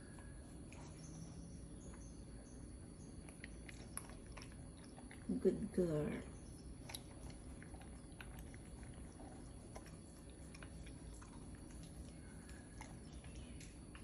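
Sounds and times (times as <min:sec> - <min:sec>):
puppy chewing food: 0:00.0 - 0:14.0.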